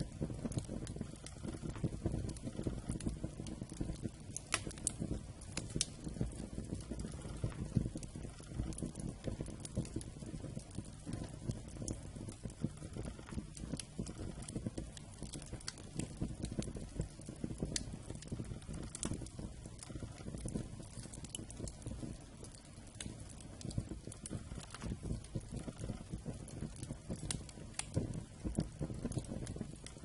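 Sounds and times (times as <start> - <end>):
burning logs crackling and popping: 0.0 - 30.0
rumble of flames: 0.0 - 30.0.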